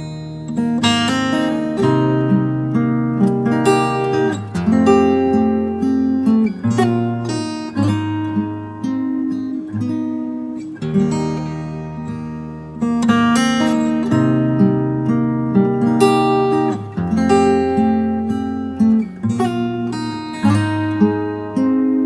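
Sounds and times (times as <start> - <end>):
acoustic guitar playing: 0.0 - 22.0.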